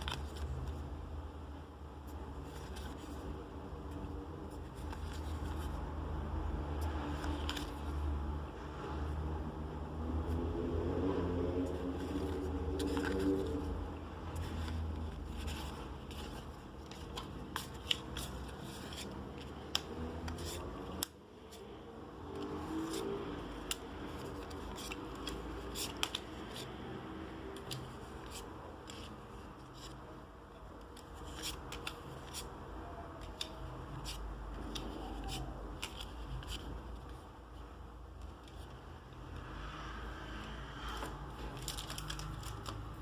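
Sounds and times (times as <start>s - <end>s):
cards and packaging handled: 0.0s - 1.0s, 2.1s - 6.0s, 6.6s - 8.8s, 10.2s - 39.0s, 40.8s - 43.0s.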